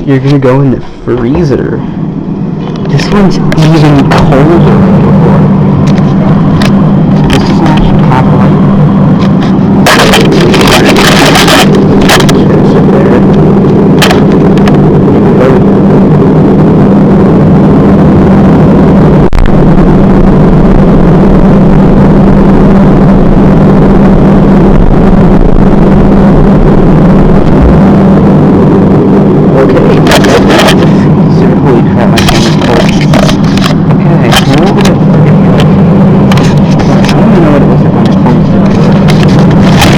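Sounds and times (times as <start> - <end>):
freezer humming: 1.6 - 39.9.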